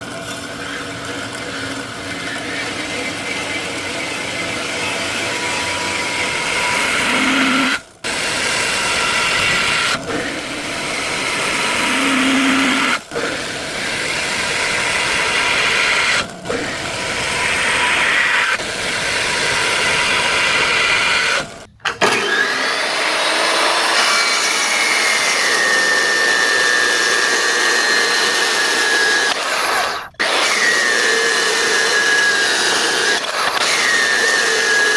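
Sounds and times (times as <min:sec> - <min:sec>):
power tool grinding steel: 0:00.0 - 0:34.9.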